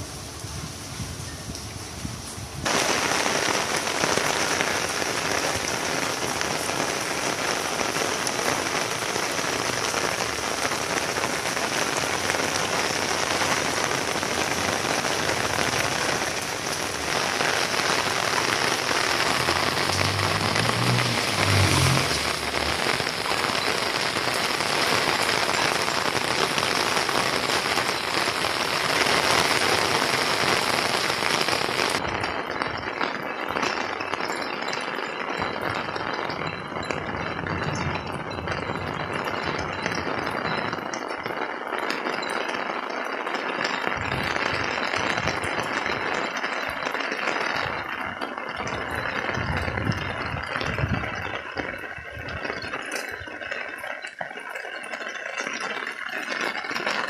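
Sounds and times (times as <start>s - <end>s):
heavy rain on concrete: 0.0s - 57.0s.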